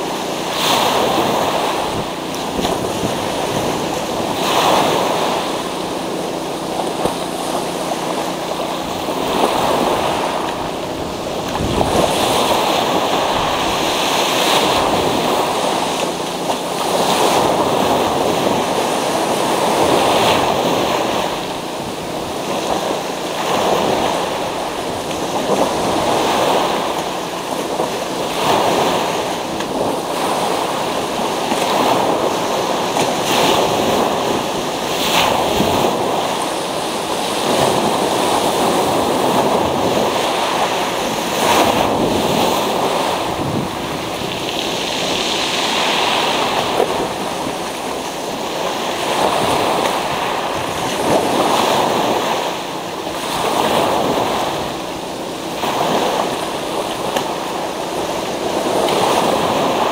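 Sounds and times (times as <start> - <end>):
waves on a pebble beach: 0.0 - 59.9.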